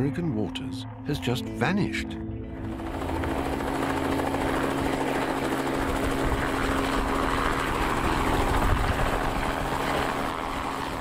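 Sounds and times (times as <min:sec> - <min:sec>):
aircraft engine droning: 0:00.0 - 0:11.0.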